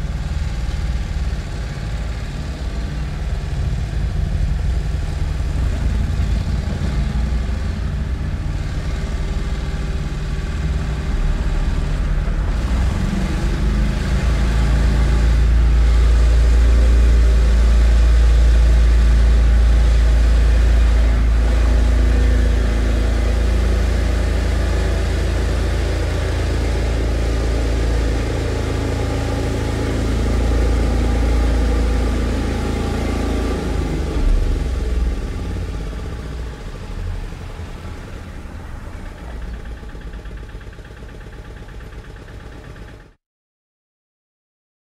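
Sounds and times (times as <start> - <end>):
construction machinery engine drone: 0.0 - 43.2.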